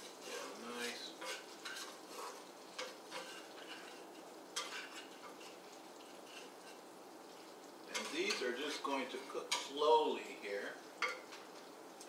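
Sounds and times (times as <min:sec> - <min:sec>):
spatula scraping a pan: 0:00.0 - 0:09.9
faint frying sizzle: 0:00.0 - 0:12.0.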